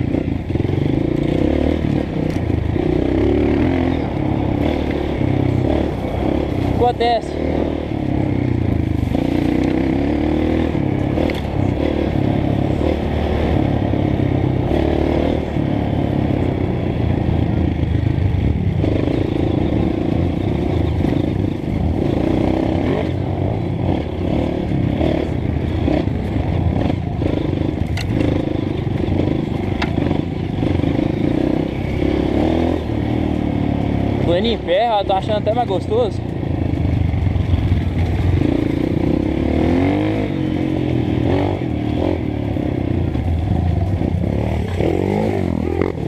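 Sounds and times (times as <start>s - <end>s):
trail bike engine under load: 0.0s - 46.0s.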